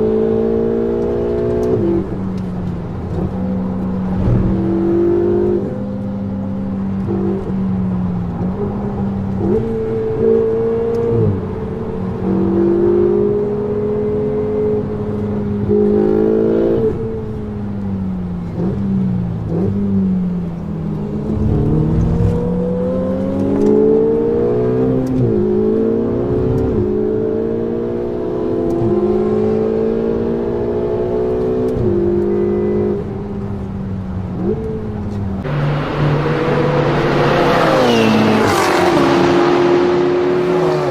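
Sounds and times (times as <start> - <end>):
sports car engine revving through gears: 0.0 - 17.8, 18.4 - 40.9.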